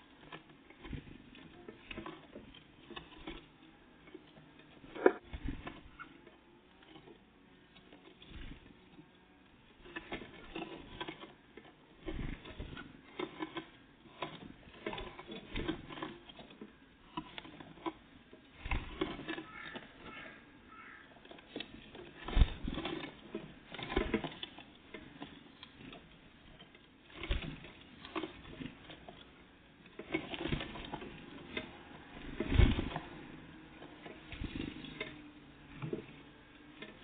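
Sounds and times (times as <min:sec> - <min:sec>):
birds pecking at a feeder: 0:00.0 - 0:37.0.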